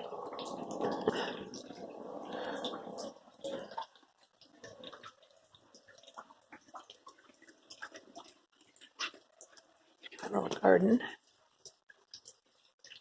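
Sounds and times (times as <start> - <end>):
faint rain drips: 0.0 - 13.0
water trickling: 0.0 - 13.0.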